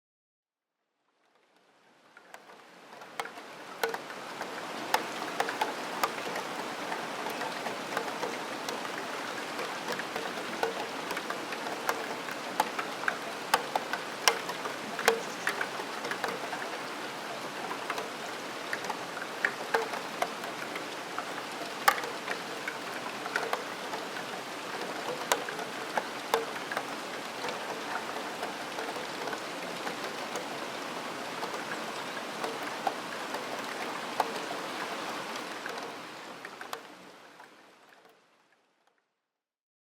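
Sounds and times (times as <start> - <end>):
rain hiss: 1.6 - 38.2.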